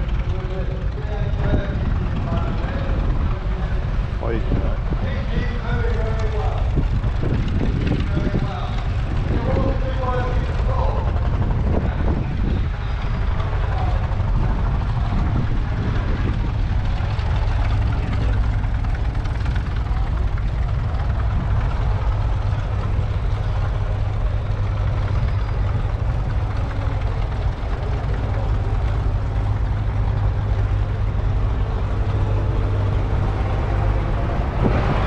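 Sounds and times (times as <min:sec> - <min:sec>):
diesel tractor engine idling: 0:00.0 - 0:35.0.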